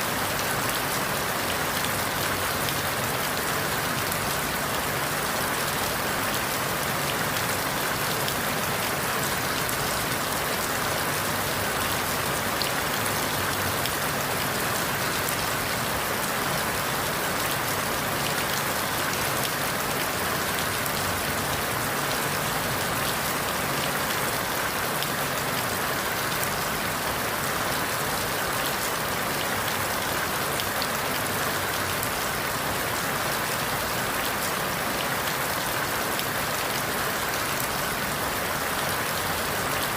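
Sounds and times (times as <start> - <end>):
rain falling through leaves: 0.0 - 39.9.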